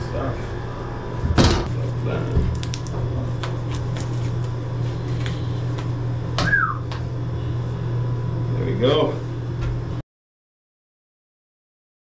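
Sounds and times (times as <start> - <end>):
refrigeration unit humming: 0.0 - 10.0.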